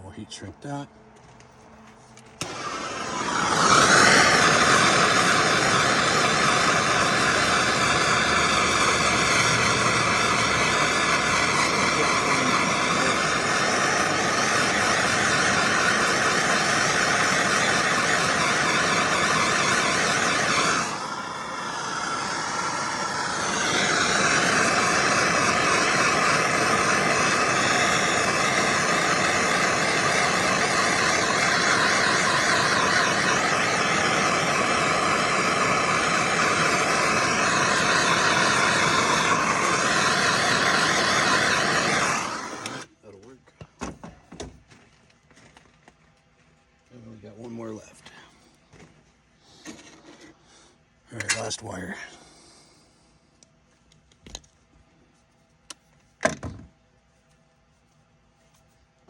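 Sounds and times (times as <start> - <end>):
heat gun fan whine: 0.0 - 59.0.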